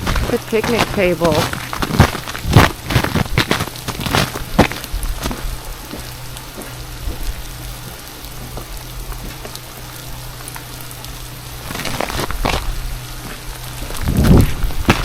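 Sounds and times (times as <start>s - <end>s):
freezing rain pattering: 0.0s - 15.0s
low steady hum: 0.0s - 15.0s.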